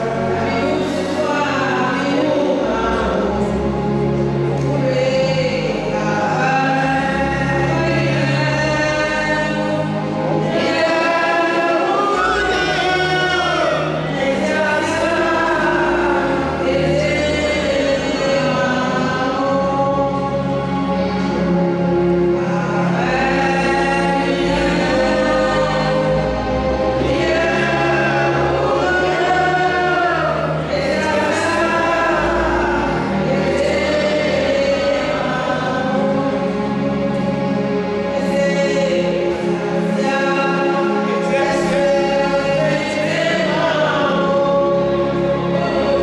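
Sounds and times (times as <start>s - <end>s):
choir singing a hymn: 0.0s - 46.0s.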